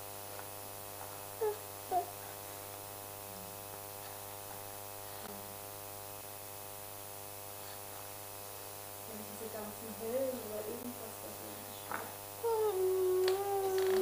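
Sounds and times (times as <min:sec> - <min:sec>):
electrical mains hum and buzz: 0:00.0 - 0:14.0.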